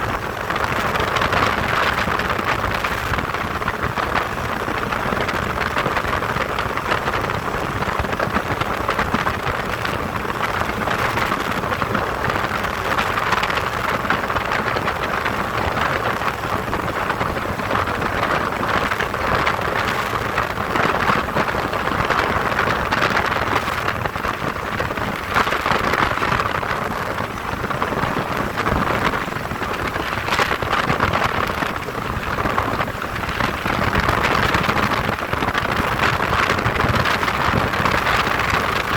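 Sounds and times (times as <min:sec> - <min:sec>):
aircraft engine: 0:00.0 - 0:38.9
wind rushing: 0:00.0 - 0:38.9.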